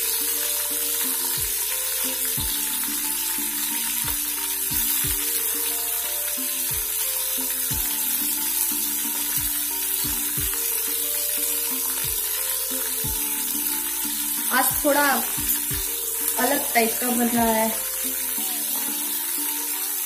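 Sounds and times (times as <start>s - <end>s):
background music: 0.0s - 20.0s
vegetables sizzling in hot oil: 0.0s - 20.0s.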